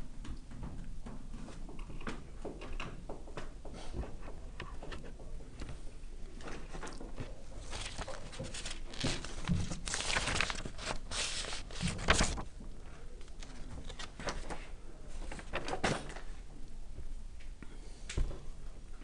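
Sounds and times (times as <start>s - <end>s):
rustles and light knocks: 0.1s - 16.4s.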